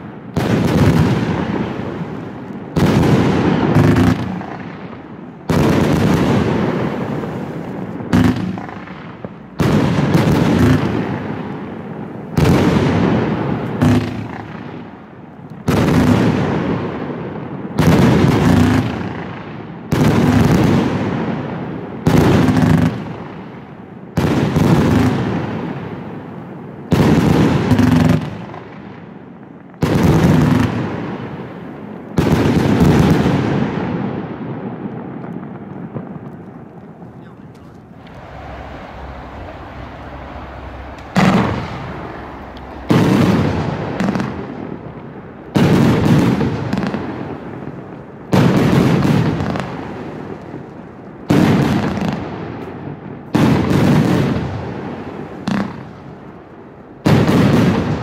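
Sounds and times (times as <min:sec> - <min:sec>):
fireworks bangs: 0:00.0 - 0:58.0
fireworks crackle and rumble: 0:00.0 - 0:58.0.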